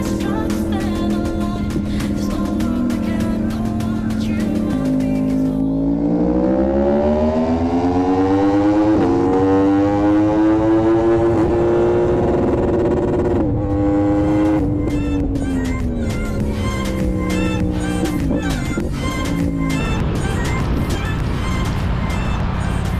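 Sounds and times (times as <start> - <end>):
background music: 0.0 - 22.9
motorcycle engine accelerating: 0.0 - 22.9.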